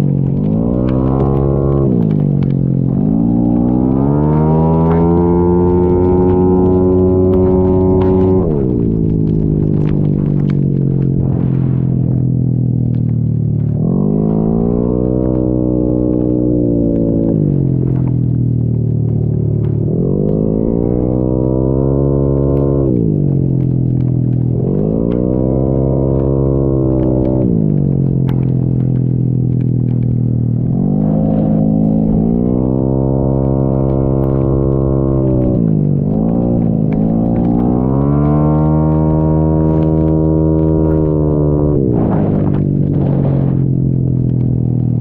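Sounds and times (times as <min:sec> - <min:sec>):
scooter engine running: 0:00.0 - 0:45.0.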